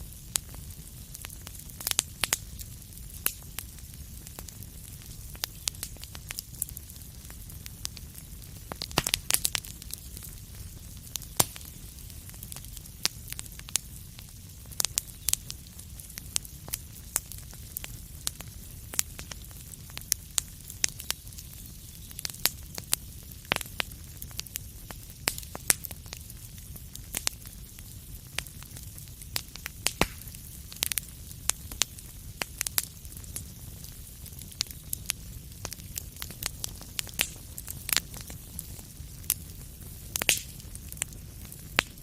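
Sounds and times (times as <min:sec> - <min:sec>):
low rumble and hiss of flames: 0:00.0 - 0:42.0
wood fire crackling and popping: 0:00.0 - 0:42.0.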